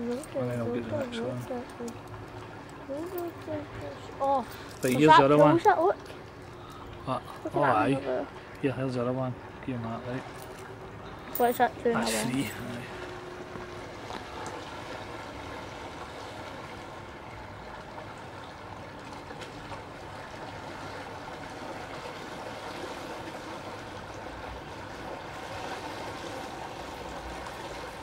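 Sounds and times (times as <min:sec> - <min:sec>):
river water rushing and trickling: 0:00.0 - 0:28.0.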